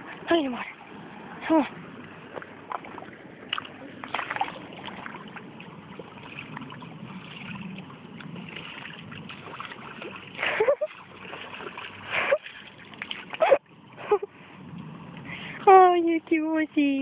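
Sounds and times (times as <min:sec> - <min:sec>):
horse splashing shallow water: 0:00.0 - 0:14.0.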